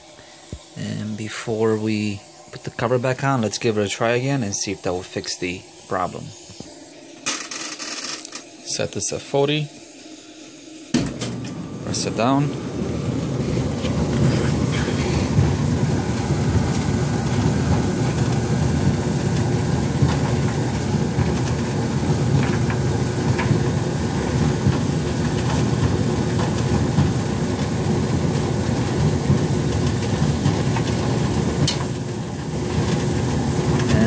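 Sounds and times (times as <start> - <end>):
clothes dryer rumble: 0.0 - 34.0.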